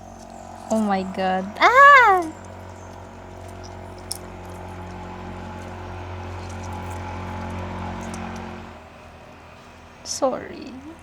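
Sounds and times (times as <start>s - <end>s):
engine humming drone: 0.0s - 11.0s.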